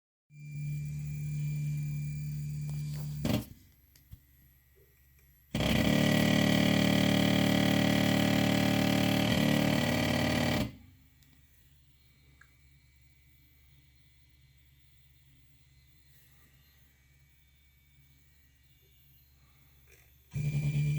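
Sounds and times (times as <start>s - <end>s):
stepper motor whine: 0.3s - 3.7s, 5.5s - 20.9s.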